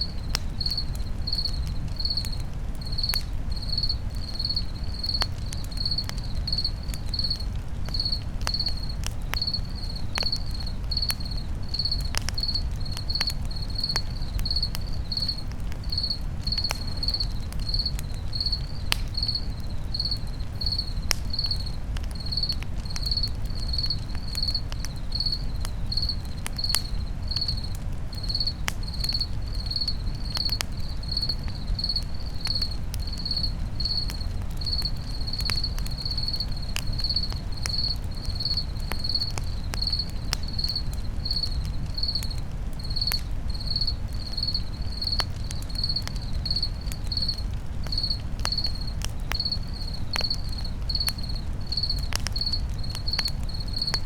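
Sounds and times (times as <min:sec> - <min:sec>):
campfire crackling and popping: 0:00.0 - 0:54.0
crickets chirping: 0:00.0 - 0:54.0
low fire rumble: 0:00.0 - 0:54.0.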